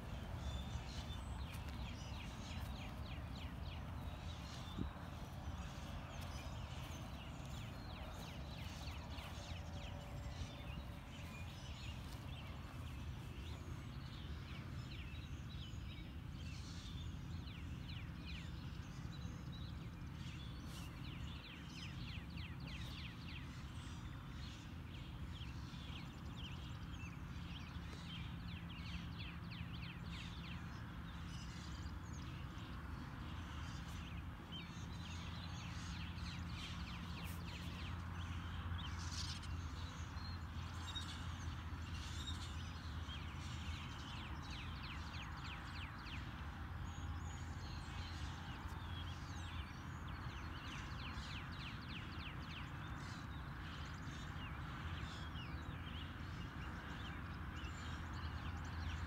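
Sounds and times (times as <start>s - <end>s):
low background rumble: 0.0s - 50.2s
birds chirping and trilling: 0.0s - 59.0s.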